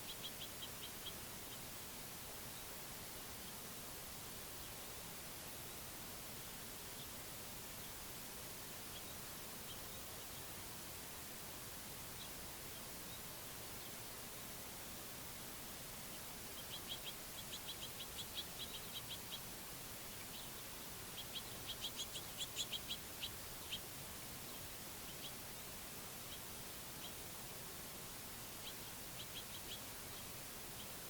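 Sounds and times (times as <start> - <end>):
faint steady hiss: 0.0 - 31.0
songbird chirping: 0.0 - 31.0.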